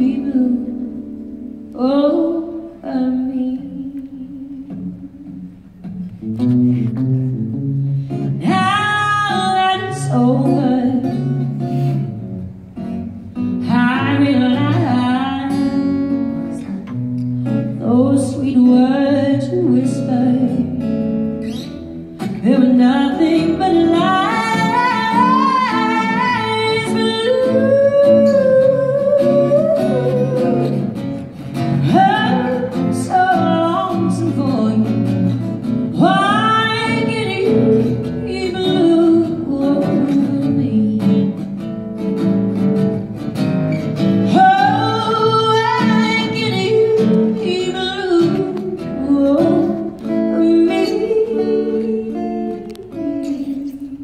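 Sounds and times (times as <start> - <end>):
woman singing a slow ballad: 0.0 - 5.4, 8.3 - 12.1, 13.4 - 21.3, 22.2 - 41.4, 44.2 - 54.0
strummed acoustic guitar: 4.7 - 54.0.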